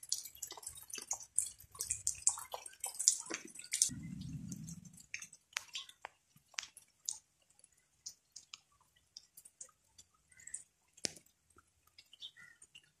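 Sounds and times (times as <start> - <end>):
water dripping: 0.0 - 13.0.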